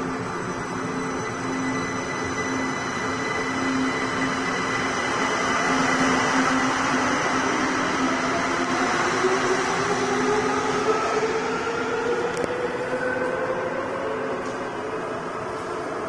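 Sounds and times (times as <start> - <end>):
rising train whine: 0.0 - 16.0.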